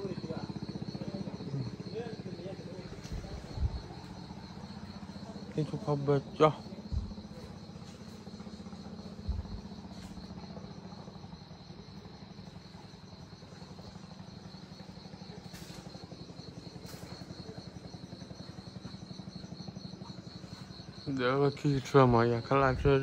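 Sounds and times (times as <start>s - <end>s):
low pulsing hum: 0.0s - 21.1s
insects trilling: 0.0s - 23.0s.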